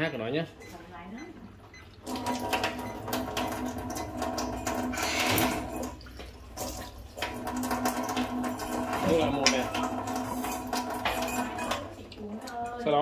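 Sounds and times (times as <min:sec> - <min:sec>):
water running into a glass: 0:01.8 - 0:13.0.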